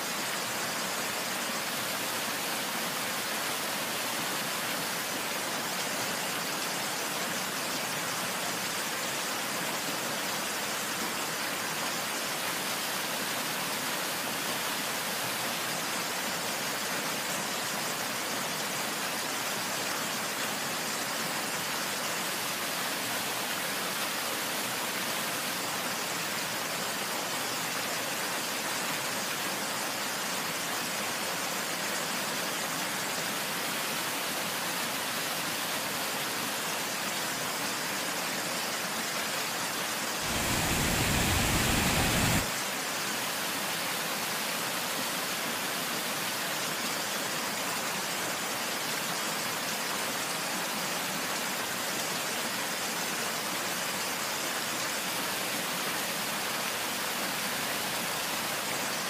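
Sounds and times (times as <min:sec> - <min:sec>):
waterfall rushing over rock: 0:00.0 - 0:59.0.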